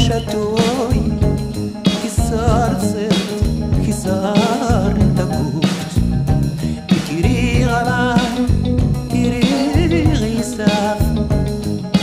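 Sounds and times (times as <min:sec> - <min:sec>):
song with singer and beat: 0:00.0 - 0:12.0.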